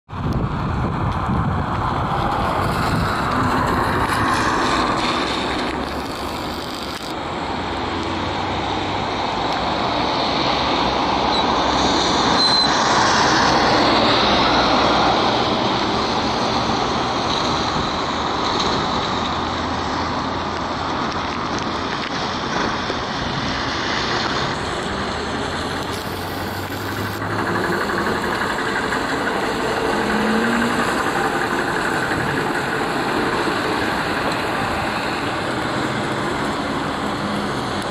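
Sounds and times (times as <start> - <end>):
trolleybus passing: 0.1 - 37.9
tyres hissing on wet road: 0.2 - 37.9.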